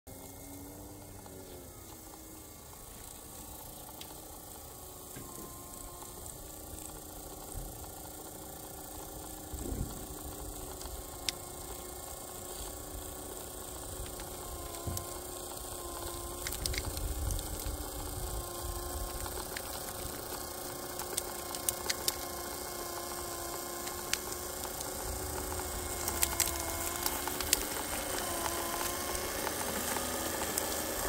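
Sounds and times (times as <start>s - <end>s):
model train motors humming: 0.1s - 31.0s.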